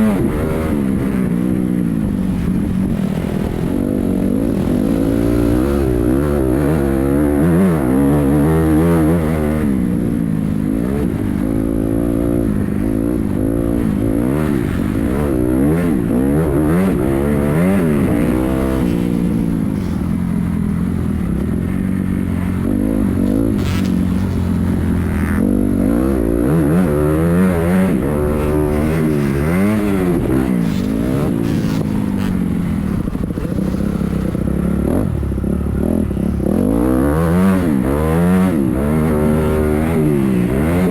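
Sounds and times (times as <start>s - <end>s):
motocross bike engine revving: 0.0s - 10.1s, 10.8s - 40.9s.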